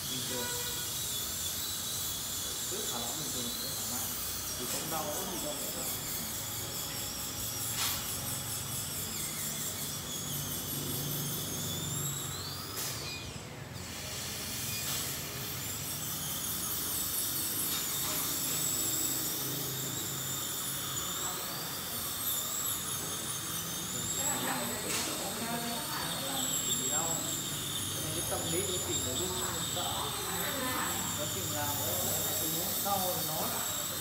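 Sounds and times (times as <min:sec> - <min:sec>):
dental drill whining: 0:00.0 - 0:34.0.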